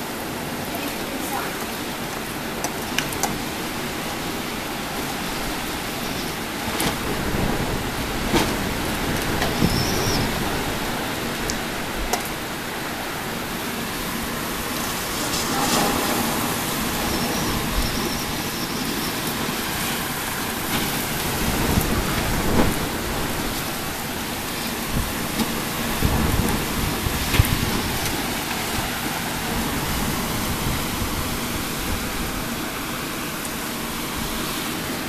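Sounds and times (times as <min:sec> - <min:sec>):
gusting wind rumble: 0:00.0 - 0:34.7
rain hissing: 0:00.0 - 0:35.0.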